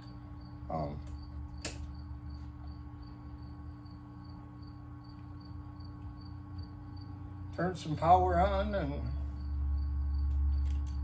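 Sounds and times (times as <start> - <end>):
insect chirping: 0.0 - 11.0
steady low hum: 0.0 - 11.0.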